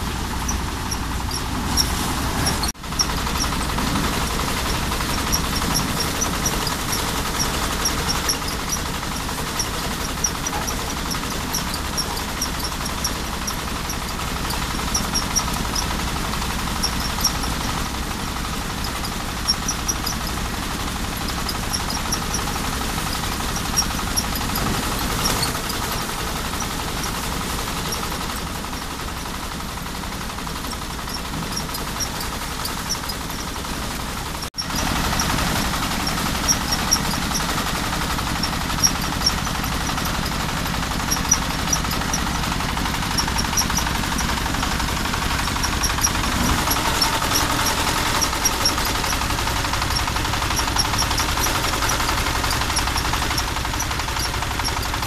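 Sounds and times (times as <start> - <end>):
rapid light ticking: 0.0 - 55.0
rice thresher running: 0.0 - 55.0.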